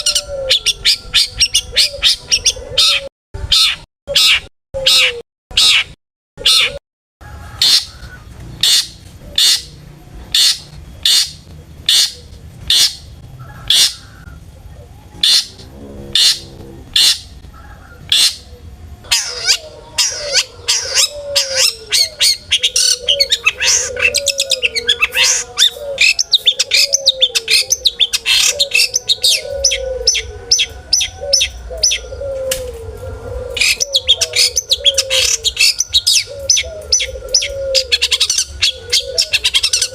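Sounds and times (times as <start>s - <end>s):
shrike singing: 7.6s - 39.9s.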